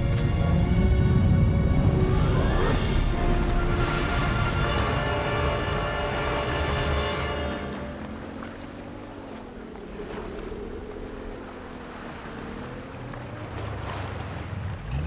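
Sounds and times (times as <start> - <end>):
faint wind howl: 0.0 - 15.0
waves rushing: 0.0 - 15.0.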